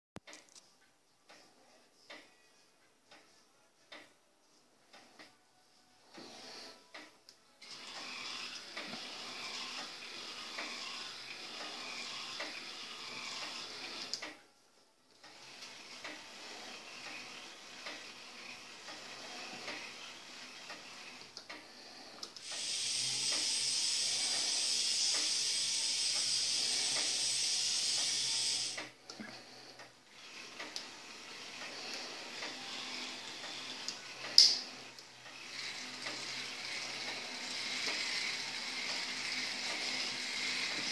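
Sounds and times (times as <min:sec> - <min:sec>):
electric motors driving plastic gears: 0:06.0 - 0:14.4, 0:15.1 - 0:40.9.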